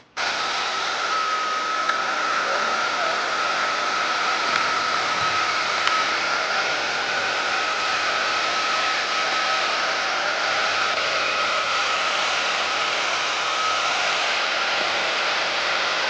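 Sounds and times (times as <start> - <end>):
hair dryer blowing: 0.0 - 16.0.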